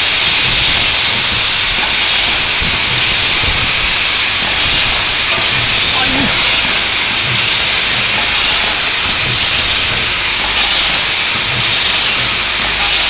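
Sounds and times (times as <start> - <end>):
machine steady hiss-like noise: 0.0 - 13.0.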